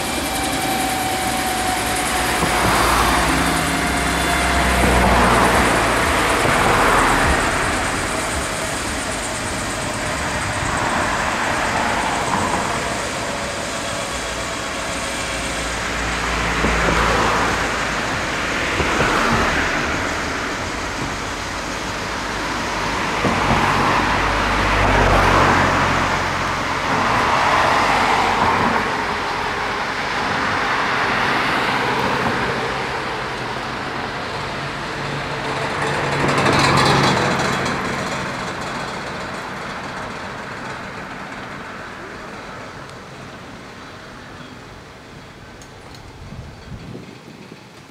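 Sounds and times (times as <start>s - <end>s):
helicopter turbine and rotor noise: 0.0s - 47.9s.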